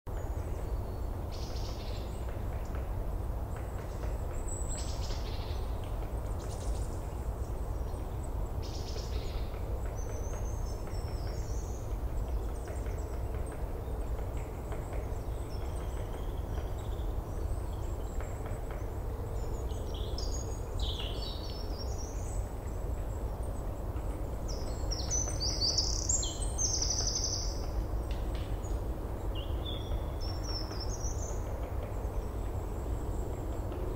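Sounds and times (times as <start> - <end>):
small birds chirping: 3.5 - 33.9.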